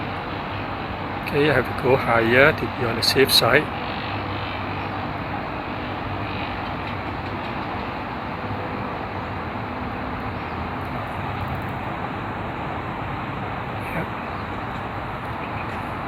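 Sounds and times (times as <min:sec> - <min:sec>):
highway traffic roar: 0:00.0 - 0:16.0.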